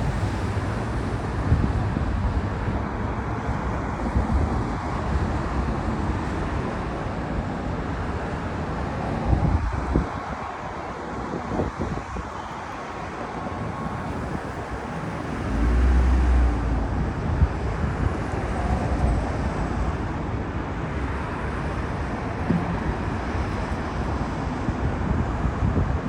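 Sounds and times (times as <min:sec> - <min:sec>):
outdoor background rumble: 0:00.0 - 0:10.6, 0:13.3 - 0:26.0.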